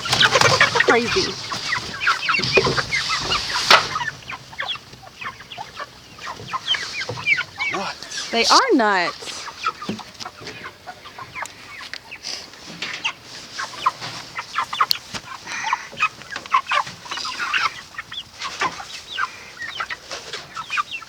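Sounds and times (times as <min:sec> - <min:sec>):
chickens clucking and chirping: 0:00.0 - 0:21.0.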